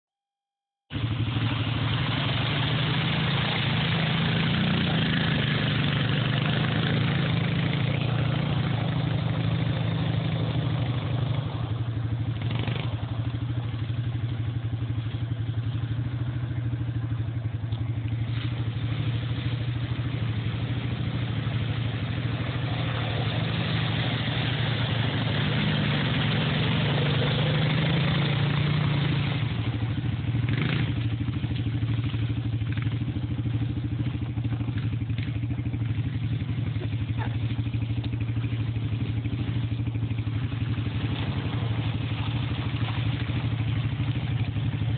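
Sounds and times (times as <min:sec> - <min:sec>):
atv engine running: 0:00.9 - 0:44.9.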